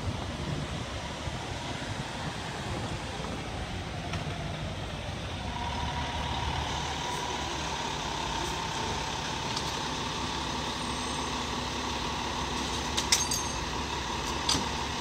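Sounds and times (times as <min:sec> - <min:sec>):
diesel truck engine rumbling: 0:00.0 - 0:15.0
engine whine: 0:00.0 - 0:15.0.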